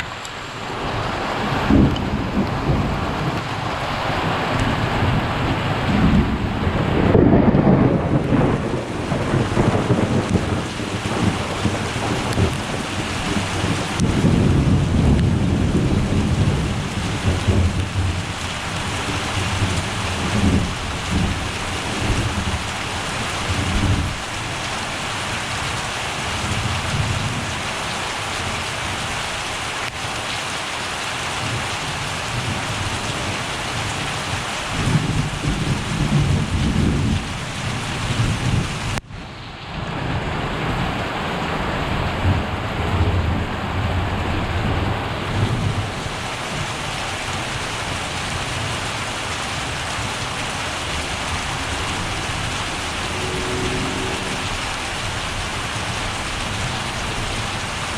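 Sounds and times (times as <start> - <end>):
heavy rain: 0.0 - 57.9
thunder rumbling: 0.7 - 27.5, 32.3 - 39.0, 39.8 - 57.9.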